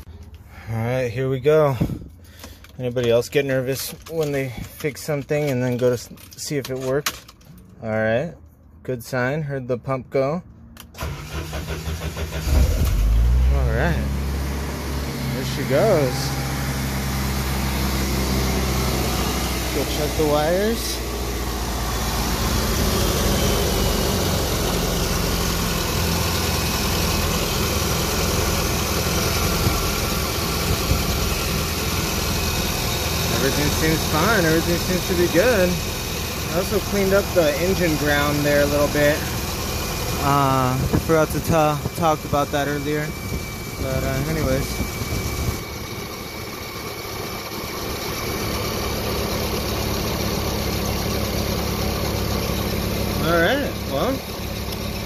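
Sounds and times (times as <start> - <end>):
car engine idling: 10.9 - 55.0.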